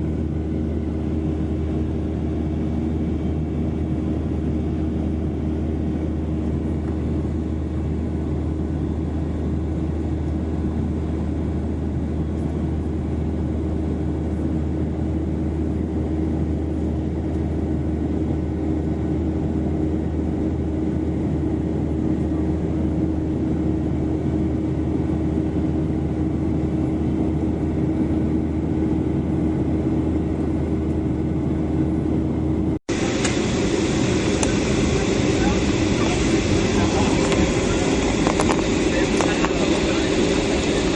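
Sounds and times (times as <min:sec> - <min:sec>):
jet engines droning: 0:00.0 - 0:40.9.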